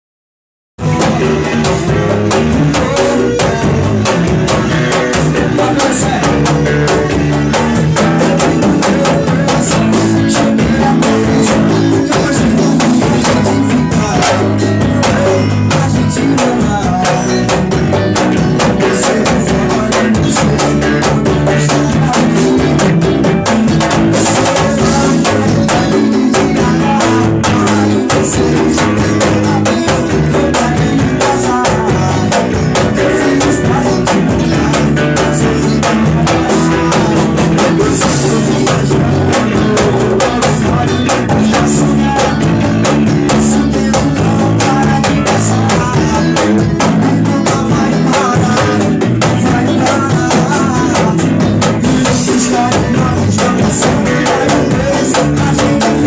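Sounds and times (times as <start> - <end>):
band song with drums and guitar: 0.8 - 56.0.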